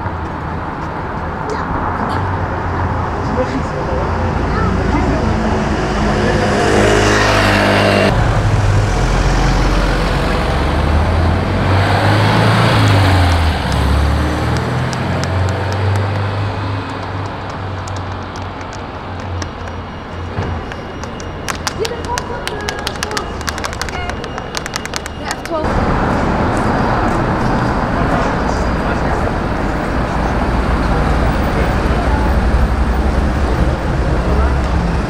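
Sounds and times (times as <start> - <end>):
car engines passing by: 0.0 - 35.0.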